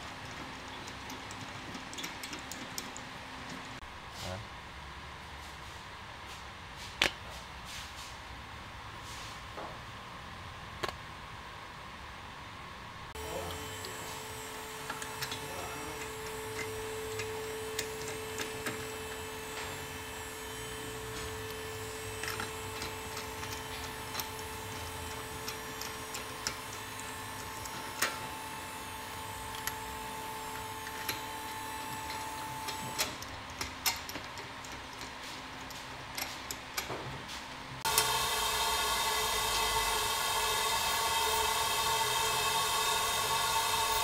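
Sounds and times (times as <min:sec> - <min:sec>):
workshop hum: 0:00.0 - 0:44.0.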